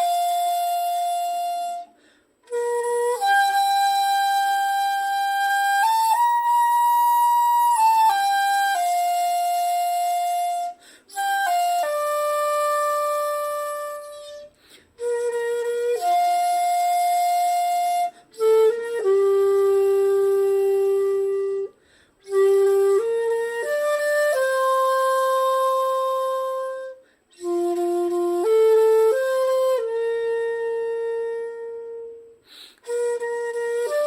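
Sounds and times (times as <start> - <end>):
bamboo flute slow melody: 0.0 - 34.0.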